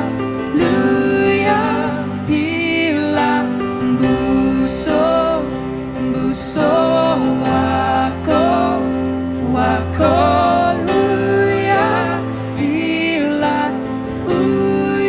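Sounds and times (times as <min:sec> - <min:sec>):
acoustic guitar: 0:00.0 - 0:15.0
worship band playing: 0:00.0 - 0:15.0.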